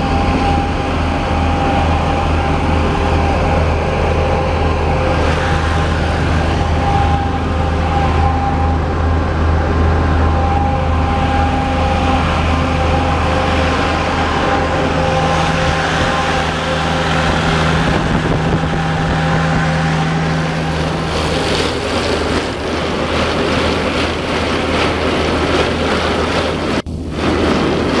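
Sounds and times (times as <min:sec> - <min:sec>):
screening plant engine humming: 0:00.0 - 0:28.0.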